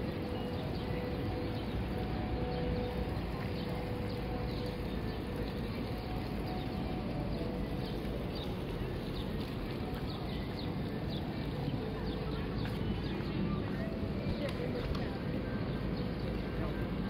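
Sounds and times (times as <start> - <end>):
small birds chirping: 0.0 - 17.0
traffic rumble: 0.0 - 17.0.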